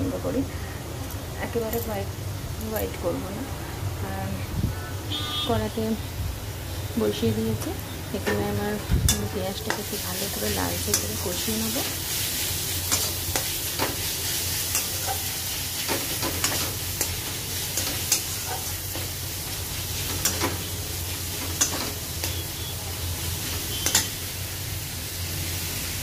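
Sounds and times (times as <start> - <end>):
onions sizzling in oil: 4.7 - 26.0.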